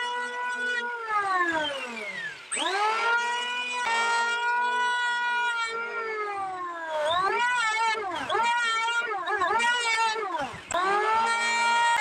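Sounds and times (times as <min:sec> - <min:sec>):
electric planer motor whining: 0:00.0 - 0:12.0.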